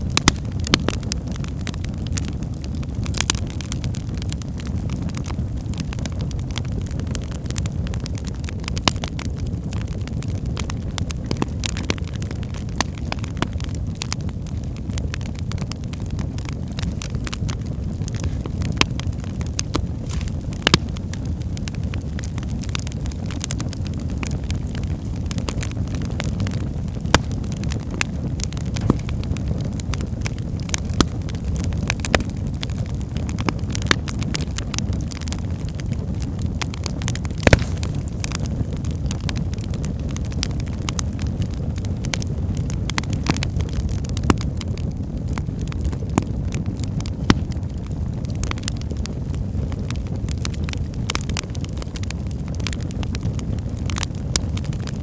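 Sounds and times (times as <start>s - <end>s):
fire rumbling: 0.0s - 55.0s
logs crackling and popping: 0.0s - 55.0s.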